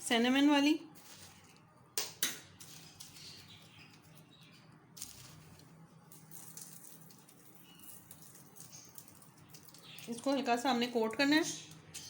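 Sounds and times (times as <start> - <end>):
sugar pattering on candies: 0.9 - 12.0.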